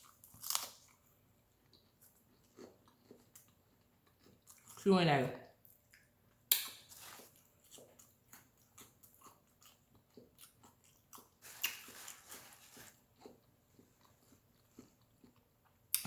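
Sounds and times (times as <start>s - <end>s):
person chewing and crunching food: 0.0s - 4.8s, 5.5s - 16.0s.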